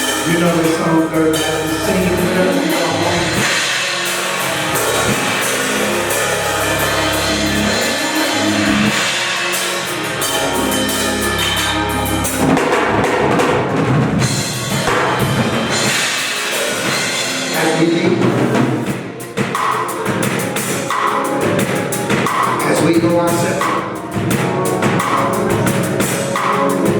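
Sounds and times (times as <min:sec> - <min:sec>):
band playing: 0:00.0 - 0:26.9
drum kit beat: 0:00.0 - 0:26.9.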